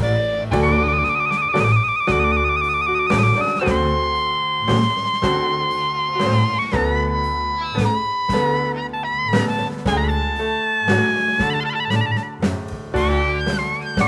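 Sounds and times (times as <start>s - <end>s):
upbeat jazzy tune with guitar: 0.0s - 14.0s.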